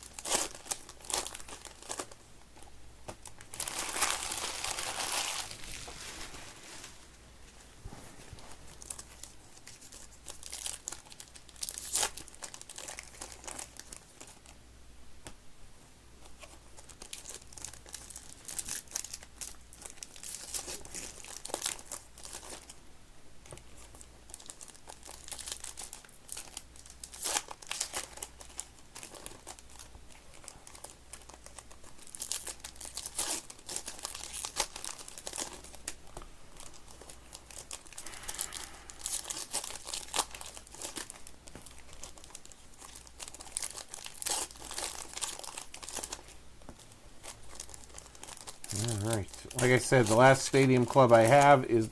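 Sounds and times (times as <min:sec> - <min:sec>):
card pack wrappers tearing and crinkling: 0:00.0 - 0:02.2, 0:03.1 - 0:06.8, 0:08.7 - 0:14.6, 0:16.4 - 0:22.8, 0:23.8 - 0:51.8.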